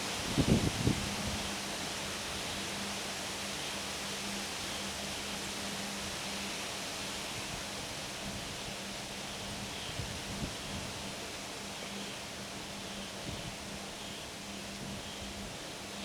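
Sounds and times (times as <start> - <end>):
wind rustling through trees: 0.0 - 16.0.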